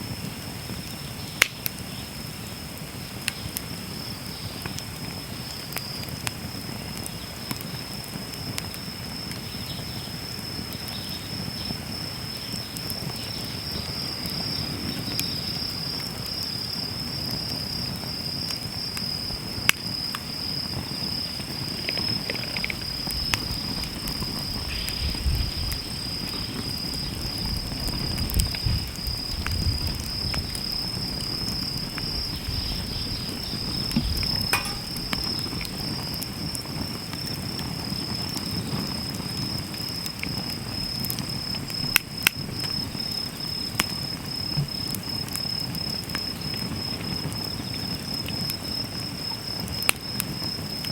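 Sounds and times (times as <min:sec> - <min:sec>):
insects chirring: 0:00.0 - 0:50.9
wood fire crackling and popping: 0:00.0 - 0:50.9.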